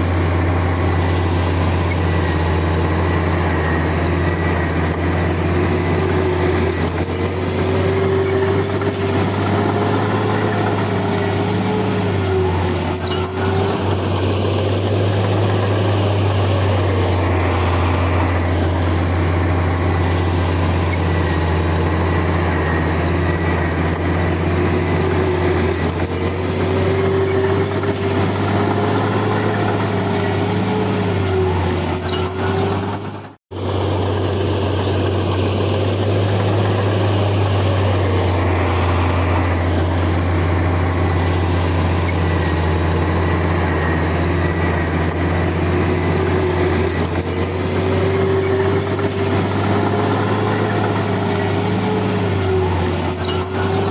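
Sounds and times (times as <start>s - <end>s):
engine whine rising and falling: 0.0s - 53.9s
heavy diesel engine running: 0.0s - 53.9s.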